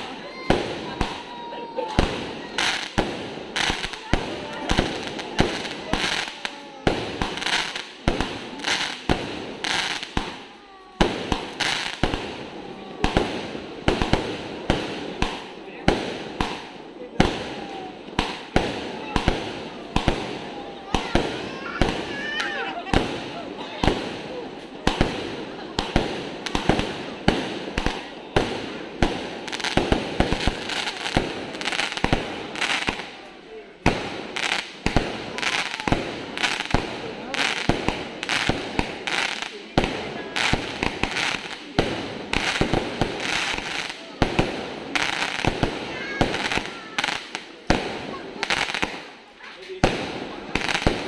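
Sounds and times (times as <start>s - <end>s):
crackling hiss of firework stars: 0.0s - 51.0s
firework bangs: 0.0s - 51.0s.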